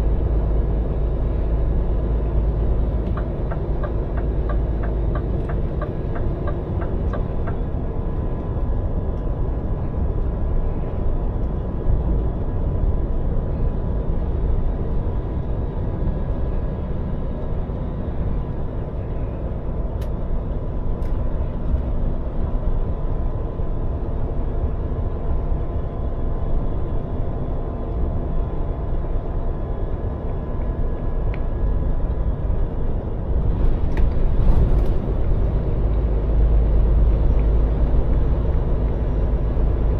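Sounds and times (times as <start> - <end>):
diesel lorry engine rumble: 0.0 - 39.9
road noise: 0.0 - 39.9.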